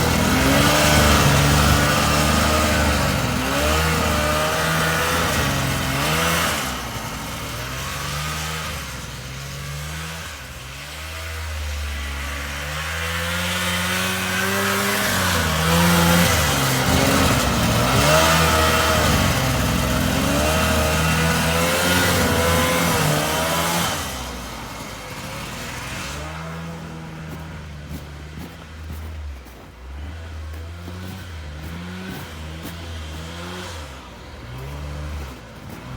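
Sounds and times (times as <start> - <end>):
snowmobile engine revving: 0.0 - 35.9.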